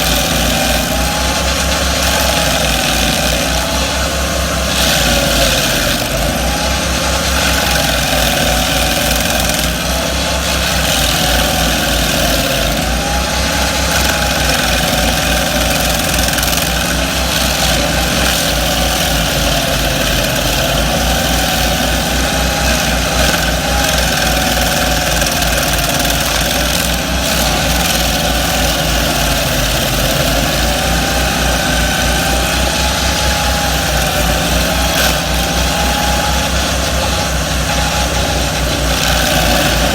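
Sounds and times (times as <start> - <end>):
grinder whine: 0.0 - 39.9
stump grinder engines running: 0.0 - 39.9.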